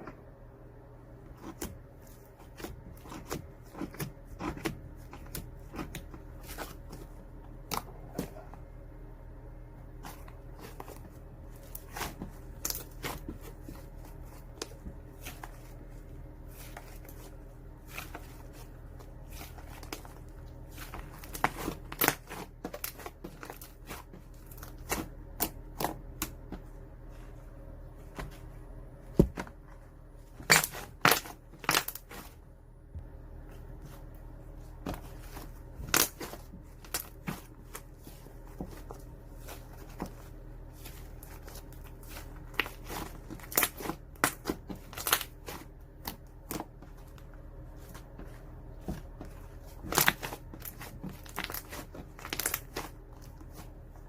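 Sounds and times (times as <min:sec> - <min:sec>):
steady low hum: 0:00.0 - 0:54.0
crackling handling noises: 0:09.7 - 0:54.0.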